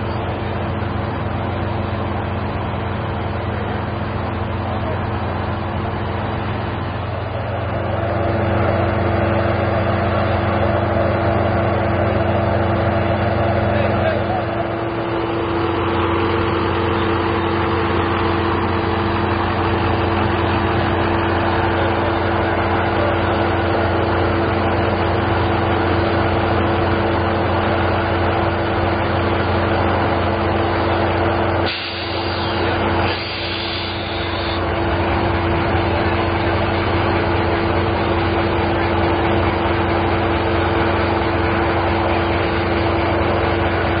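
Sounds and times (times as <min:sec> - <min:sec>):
diesel locomotive idling: 0:00.0 - 0:44.0.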